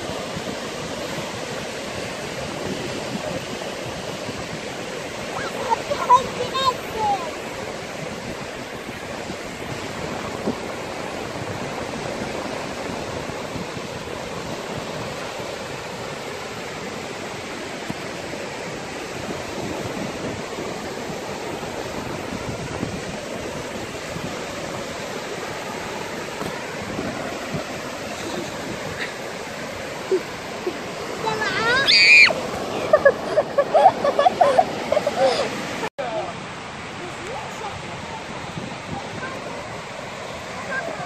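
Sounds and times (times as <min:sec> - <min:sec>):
waves breaking on shore: 0:00.0 - 0:41.0.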